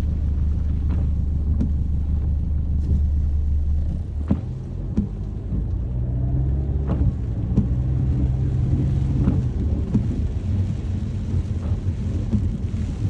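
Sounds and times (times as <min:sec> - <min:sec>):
low hum: 0:00.0 - 0:13.0
rain falling: 0:00.0 - 0:13.0
raindrops ticking: 0:00.0 - 0:13.0
steady low rumble: 0:00.0 - 0:13.0.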